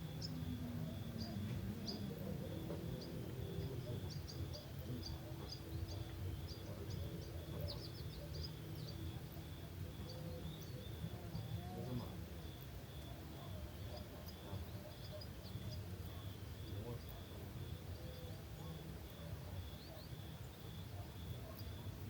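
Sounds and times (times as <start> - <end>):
crickets chirping: 0.0 - 22.0
small birds chirping: 0.0 - 22.0.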